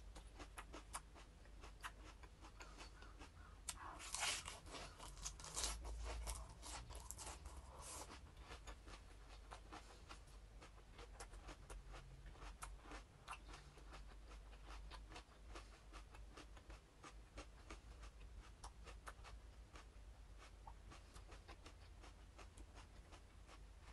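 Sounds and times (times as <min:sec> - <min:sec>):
person chewing lettuce: 0:00.0 - 0:23.9.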